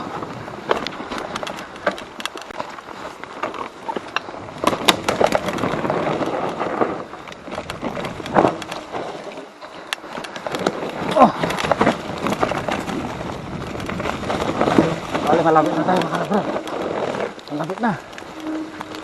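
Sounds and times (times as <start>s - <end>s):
bike tyres rattling over rocks: 0.0s - 19.0s.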